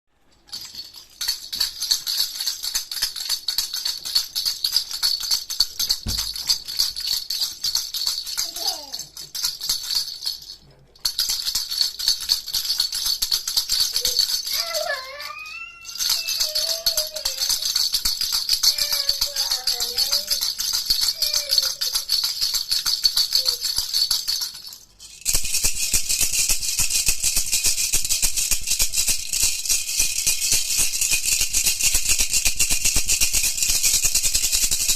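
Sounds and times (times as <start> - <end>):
baby rattle shaken fast: 0.5 - 34.9.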